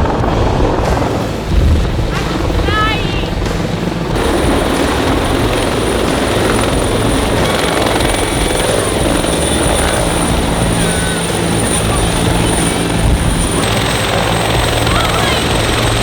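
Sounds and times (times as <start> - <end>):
helicopter rotor and engine: 0.0 - 16.0
thin high whine: 0.9 - 16.0.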